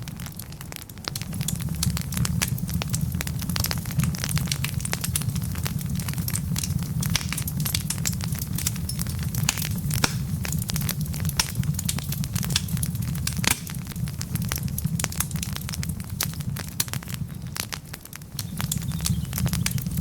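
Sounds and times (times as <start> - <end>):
burning logs crackling and popping: 0.0 - 20.0
fire flames rumbling: 0.0 - 20.0.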